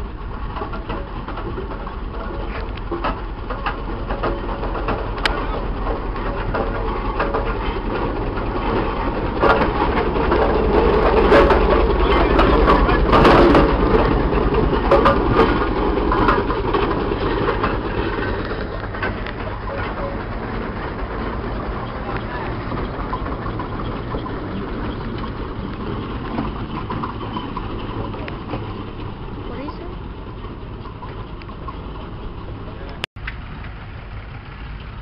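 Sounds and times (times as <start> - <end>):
mechanical clanks and knocks: 0.0 - 33.8
steam engine chuffing: 0.0 - 35.0.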